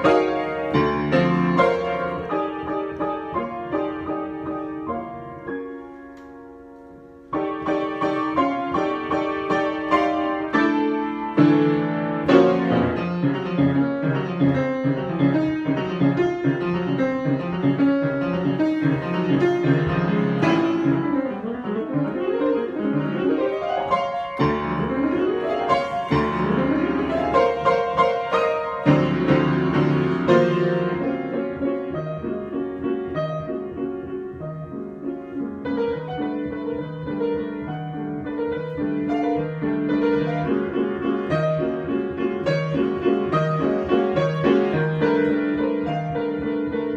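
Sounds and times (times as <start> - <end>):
solo piano playing: 0.0 - 46.9.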